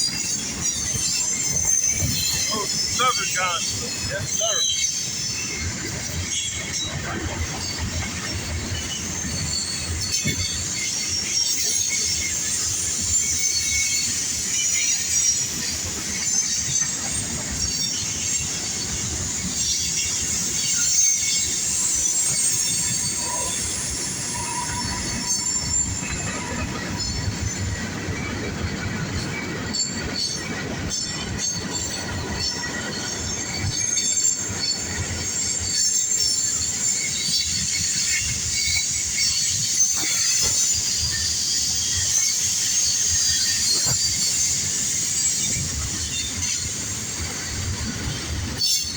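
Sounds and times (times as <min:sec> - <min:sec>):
freight train rumbling past: 0:00.0 - 0:48.9
wheels squealing on rail: 0:00.0 - 0:48.9.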